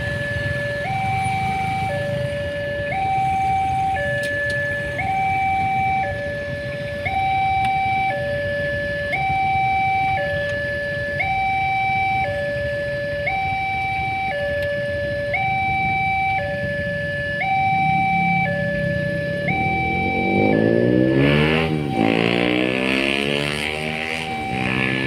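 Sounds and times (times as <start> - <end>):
level crossing two-tone alarm: 0.0 - 25.0.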